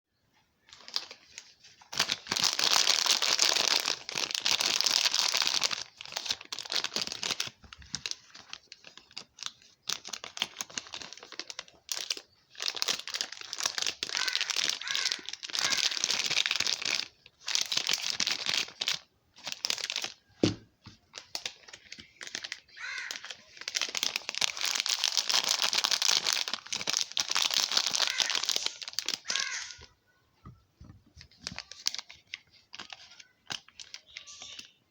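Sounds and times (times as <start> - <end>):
wrapper crinkling and tearing: 0.7 - 20.2, 21.1 - 29.9, 31.3 - 34.8.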